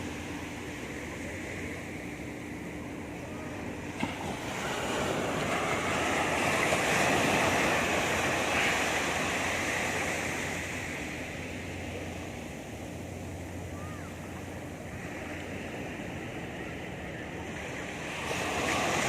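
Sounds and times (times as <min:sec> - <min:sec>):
sea waves breaking on beach: 0:00.0 - 0:19.0.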